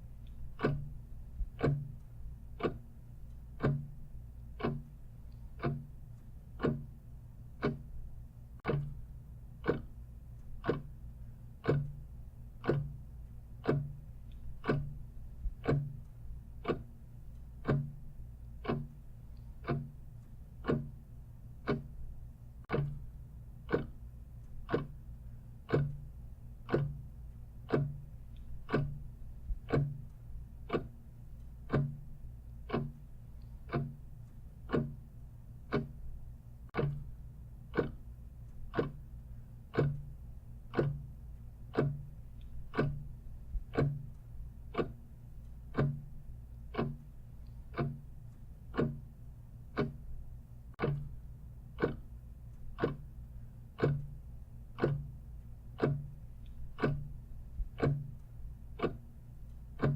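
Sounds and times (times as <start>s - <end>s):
clock ticking: 0.0s - 59.9s
low steady hum: 0.0s - 59.9s.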